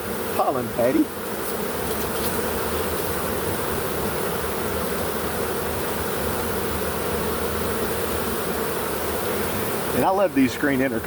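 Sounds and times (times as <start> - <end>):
bee swarm buzzing: 0.0 - 11.0.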